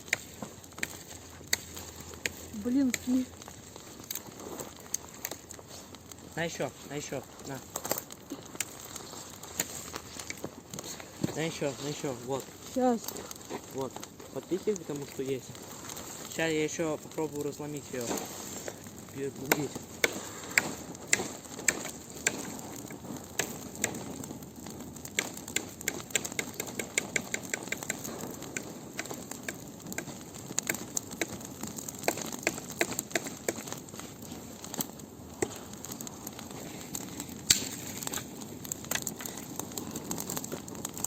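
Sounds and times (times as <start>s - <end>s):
bonfire crackling and popping: 0.0s - 41.0s
flame rushing: 0.0s - 41.0s
loud fire snap: 0.0s - 41.0s.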